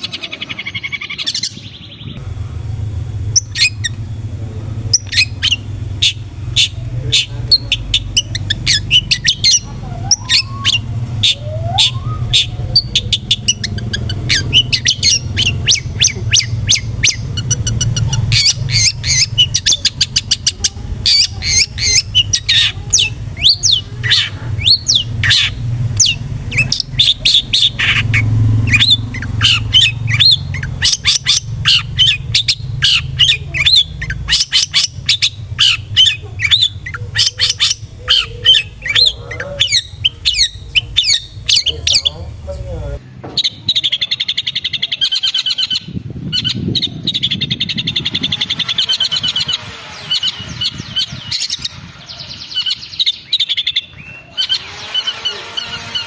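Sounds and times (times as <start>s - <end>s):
bird singing harsh chatter: 0.0s - 2.2s, 3.0s - 56.0s
steady low rumble: 0.0s - 44.7s, 45.6s - 54.1s.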